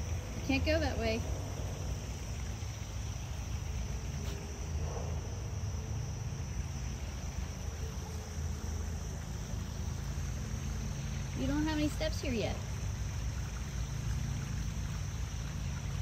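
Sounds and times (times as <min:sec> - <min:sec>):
insects chirping: 0:00.0 - 0:16.0
low steady rumble: 0:00.0 - 0:16.0.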